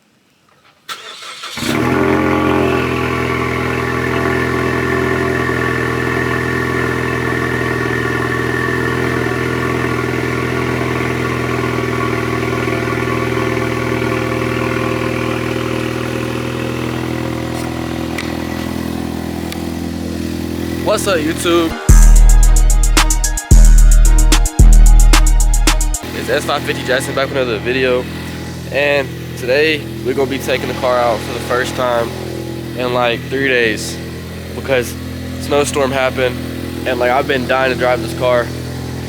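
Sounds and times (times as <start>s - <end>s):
car engine cold-starting: 0.6s - 22.6s, 23.5s - 39.0s
car engine fast idle: 0.9s - 22.1s, 26.0s - 39.0s.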